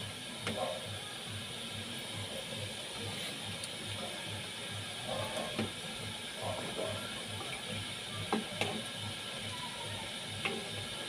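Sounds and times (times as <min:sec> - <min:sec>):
food simmering hiss: 0:00.0 - 0:11.0.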